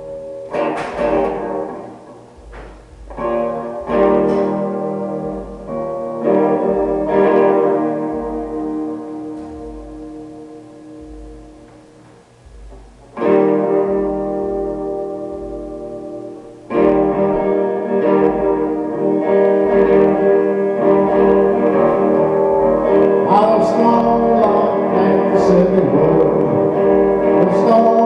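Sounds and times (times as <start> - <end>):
blues guitar playing: 0.0 - 28.0
soft low beat: 0.0 - 28.0.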